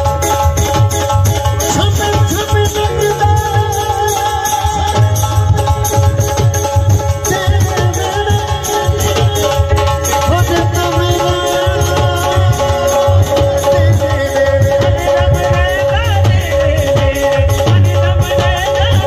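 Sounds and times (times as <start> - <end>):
dhol drum beating: 0.0 - 19.0.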